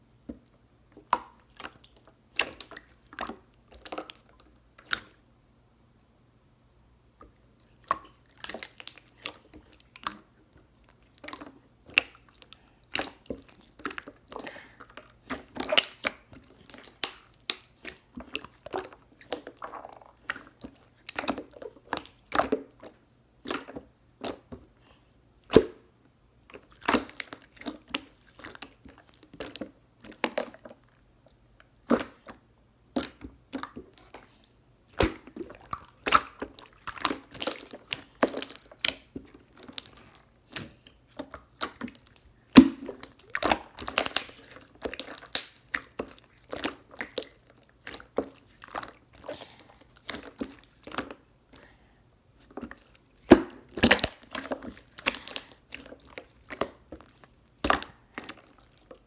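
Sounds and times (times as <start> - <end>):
wet clicks and squishes: 0.3 - 5.6, 7.2 - 25.8, 26.5 - 51.7, 52.4 - 59.0.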